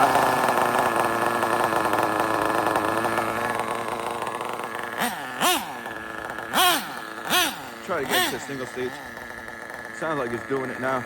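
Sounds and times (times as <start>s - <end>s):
model car nitro engine revving: 0.0s - 11.0s.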